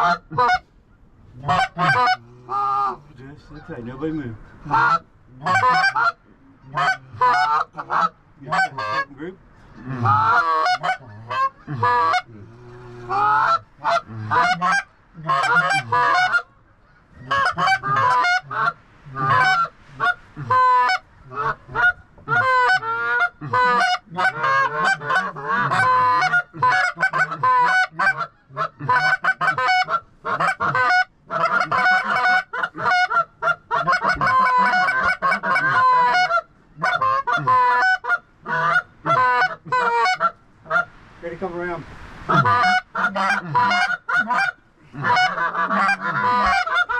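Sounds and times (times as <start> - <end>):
geese honking: 0.0 - 0.7, 1.4 - 40.9, 42.2 - 46.9.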